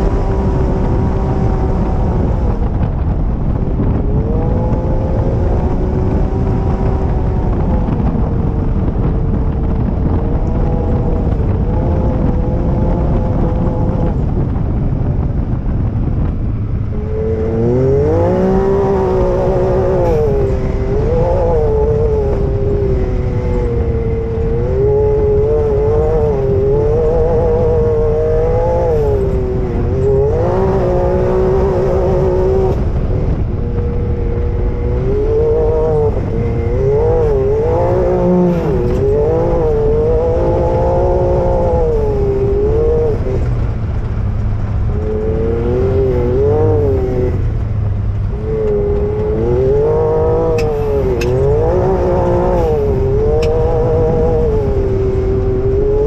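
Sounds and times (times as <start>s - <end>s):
off-road vehicle engine revving: 0.0s - 56.0s
wind rumble on microphone: 0.0s - 56.0s.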